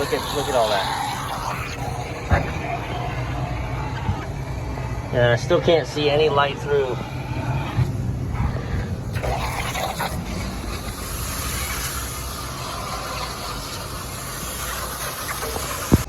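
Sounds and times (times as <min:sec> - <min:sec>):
hose water spraying on coil: 0:00.0 - 0:16.0.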